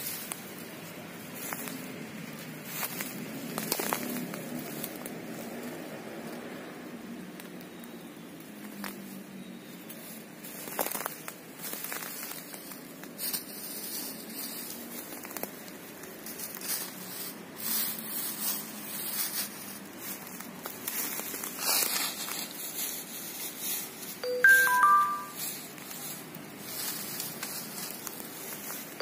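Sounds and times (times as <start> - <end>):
crackling and rustling: 0.0 - 24.2, 24.8 - 29.0.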